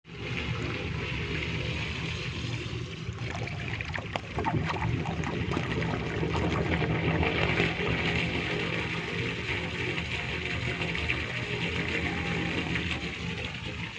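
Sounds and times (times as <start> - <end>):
water trickling into a drain: 0.0 - 13.9
water splashes: 0.1 - 13.9.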